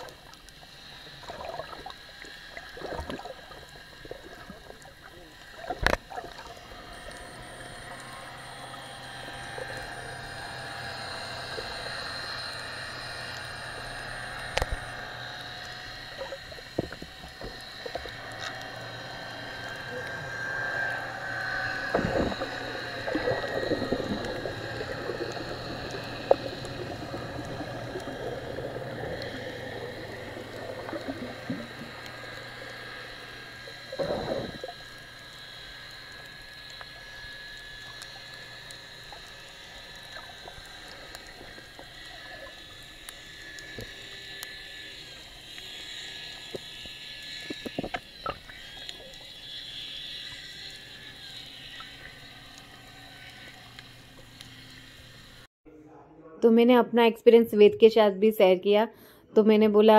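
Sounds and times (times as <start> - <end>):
bubbling and gurgling: 0.0 - 55.5
muffled underwater hum: 0.0 - 55.5.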